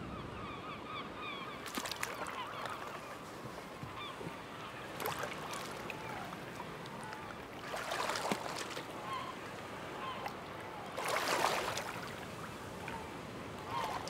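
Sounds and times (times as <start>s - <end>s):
faint bird calls: 0.0s - 14.0s
water splashing from wading: 1.5s - 14.0s.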